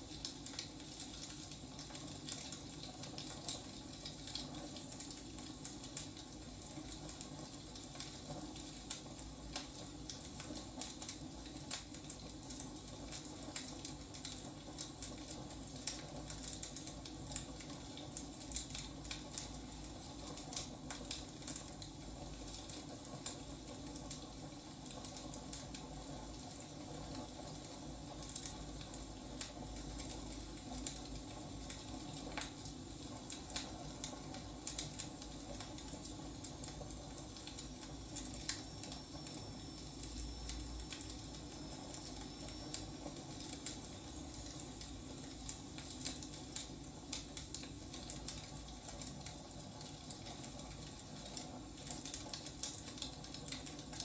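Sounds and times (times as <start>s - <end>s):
low fire hiss: 0.0s - 54.0s
wood fire crackling and popping: 0.0s - 54.0s.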